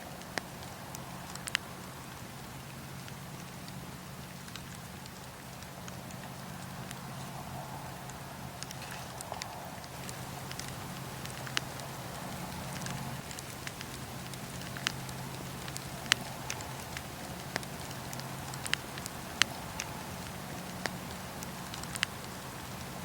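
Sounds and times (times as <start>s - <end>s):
low rumble and hiss of fire: 0.0s - 23.0s
wood fire crackling and popping: 0.0s - 23.0s.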